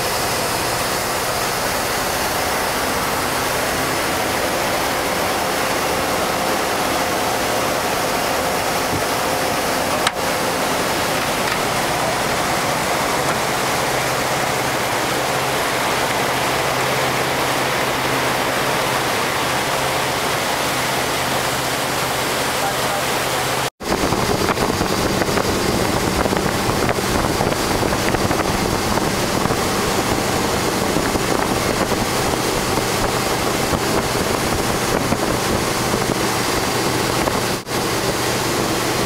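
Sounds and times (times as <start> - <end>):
boat engine humming faintly: 0.0 - 39.0
rush of water and wind: 0.0 - 39.0.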